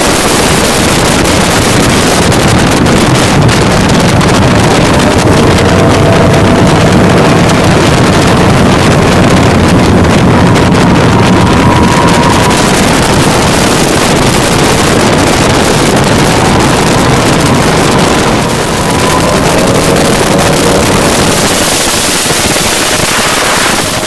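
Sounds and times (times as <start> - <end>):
second speedboat engine tones: 0.0 - 24.0
speedboat engine running: 0.0 - 24.0
water rushing: 0.0 - 24.0
wind buffeting the microphone: 0.0 - 24.0.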